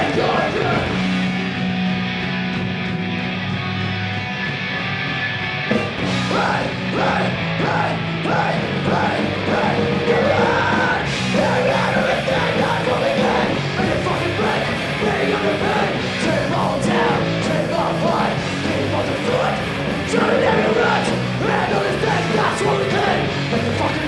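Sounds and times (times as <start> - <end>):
shouted vocals: 0.0 - 1.4, 6.2 - 24.0
electric guitars: 0.0 - 24.0
live punk rock band playing: 0.0 - 24.0.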